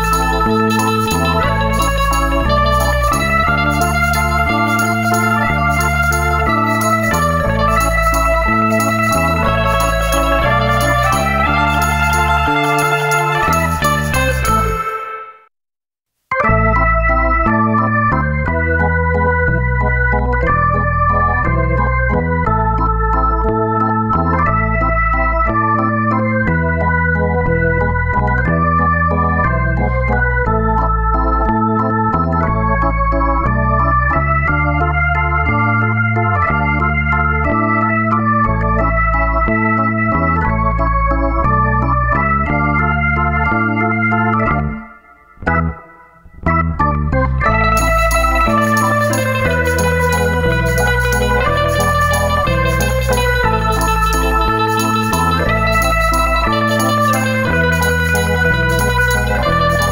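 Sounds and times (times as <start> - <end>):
steady bass line: 0.0 - 15.1, 16.3 - 59.9
electronic organ melody: 0.0 - 15.5, 16.3 - 59.9.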